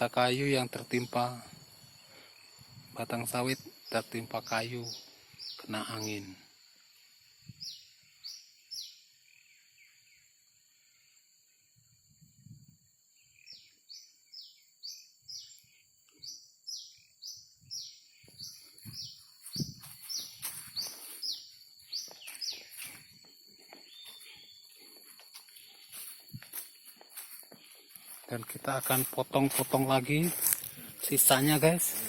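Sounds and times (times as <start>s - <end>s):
bird chirping: 0.0s - 6.4s, 7.5s - 10.4s, 12.4s - 32.0s.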